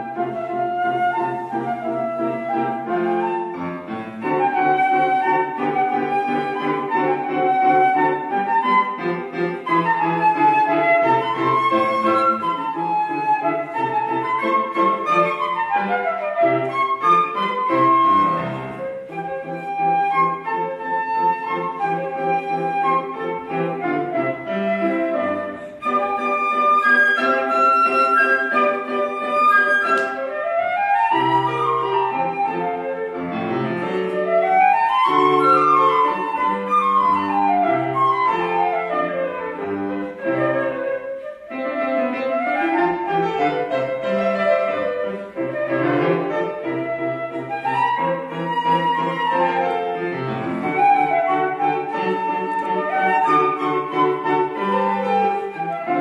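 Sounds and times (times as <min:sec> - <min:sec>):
flute melody: 0:00.0 - 0:56.0
piano accompaniment: 0:00.0 - 0:56.0.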